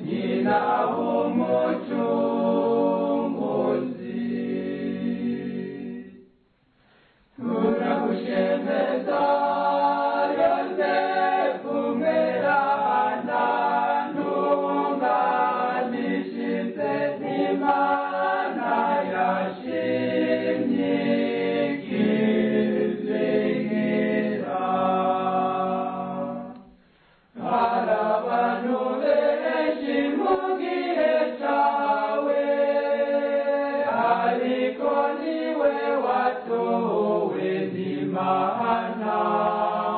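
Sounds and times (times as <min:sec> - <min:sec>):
choir singing a hymn a cappella: 0:00.0 - 0:06.2, 0:07.3 - 0:26.6, 0:27.3 - 0:39.9.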